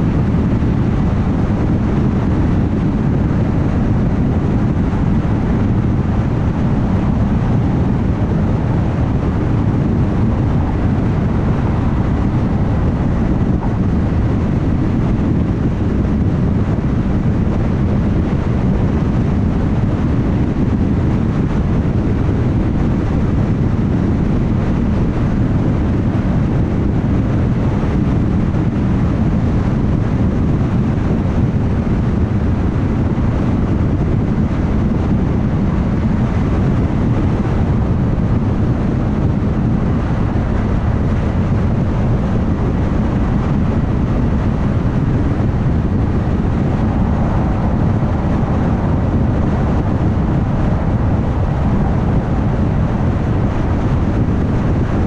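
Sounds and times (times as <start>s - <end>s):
car engine hum: 0.0s - 32.6s, 34.4s - 55.0s.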